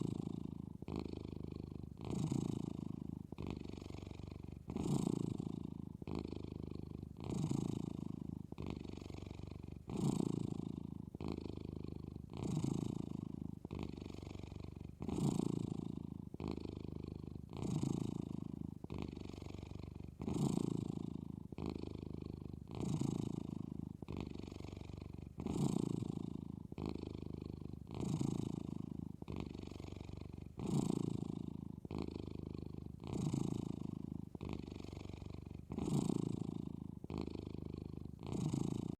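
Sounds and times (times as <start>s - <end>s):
cat snoring: 0.0s - 38.9s.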